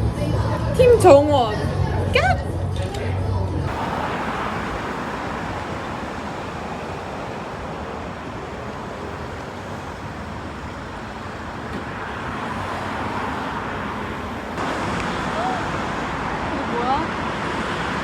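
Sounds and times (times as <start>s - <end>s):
rushing outdoor background noise: 0.0s - 18.0s.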